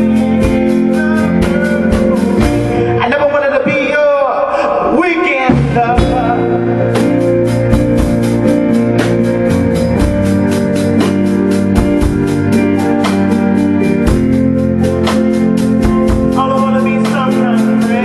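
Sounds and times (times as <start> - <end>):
steady drum beat: 0.0 - 3.8, 5.4 - 18.0
organ-like chords: 0.0 - 18.0.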